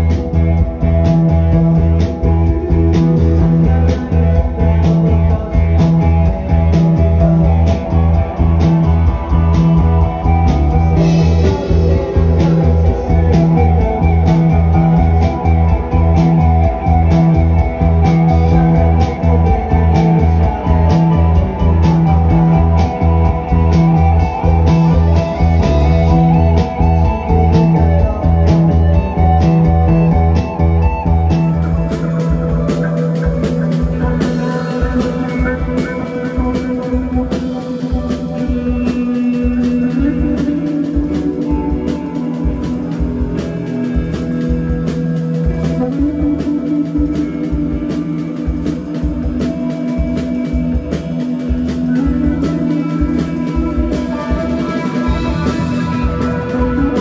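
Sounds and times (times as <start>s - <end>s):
bass and drums beat: 0.0s - 57.0s
electric guitars: 0.0s - 57.0s.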